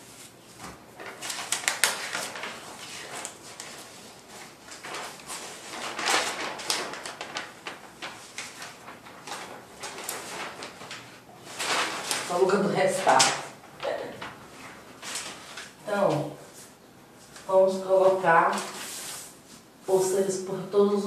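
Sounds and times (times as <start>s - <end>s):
magazine paper rustling and crackling: 0.0s - 19.7s.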